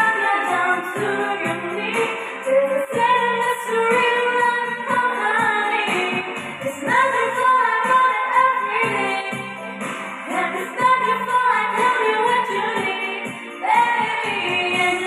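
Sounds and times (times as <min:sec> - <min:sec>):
song with sung melody and beat: 0:00.0 - 0:15.0.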